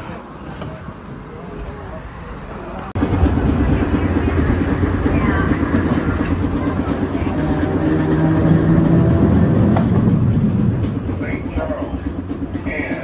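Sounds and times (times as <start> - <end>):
steel wheels rumbling on rails: 0.0 - 13.0.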